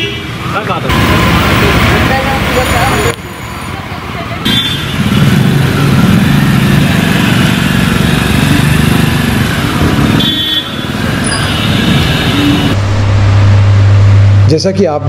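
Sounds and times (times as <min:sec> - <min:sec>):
vehicles driving through floodwater: 0:00.0 - 0:12.8.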